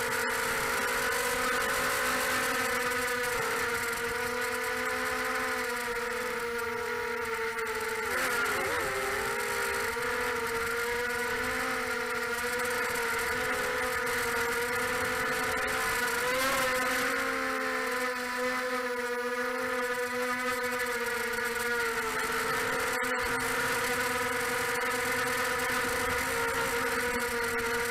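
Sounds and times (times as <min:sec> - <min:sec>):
quadcopter motors whining: 0:00.0 - 0:27.9.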